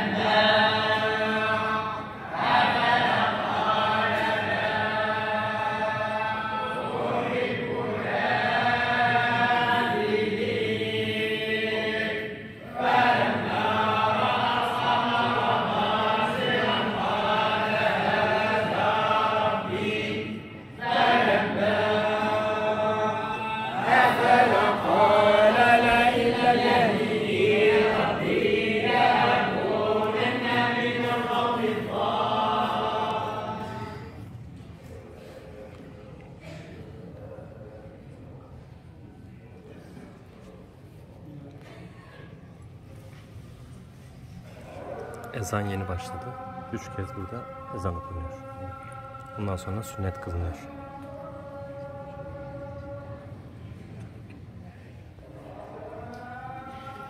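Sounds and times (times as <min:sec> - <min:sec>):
congregation chanting in unison: 0:00.0 - 0:34.3, 0:44.4 - 0:54.0, 0:54.9 - 0:57.0.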